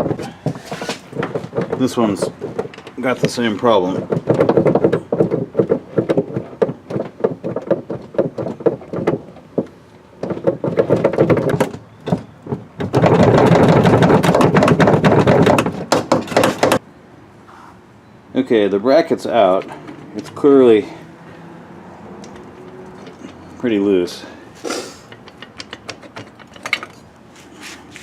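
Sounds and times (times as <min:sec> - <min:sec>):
seat bracket creaking and knocking: 0:00.0 - 0:16.8, 0:19.4 - 0:21.4, 0:22.0 - 0:23.8, 0:25.0 - 0:27.1.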